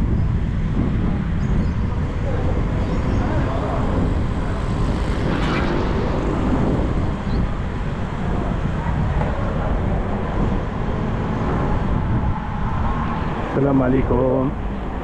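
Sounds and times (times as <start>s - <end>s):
city street traffic: 0.0s - 15.0s
wind rumbling on microphone: 0.0s - 15.0s.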